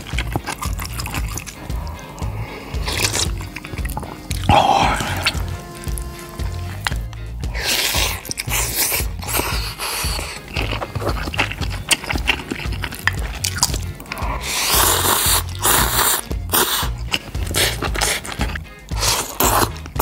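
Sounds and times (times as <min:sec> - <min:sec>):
background music with low beat: 0:00.0 - 0:20.0
slurping noodles: 0:00.0 - 0:20.0
wet chewing: 0:00.0 - 0:20.0.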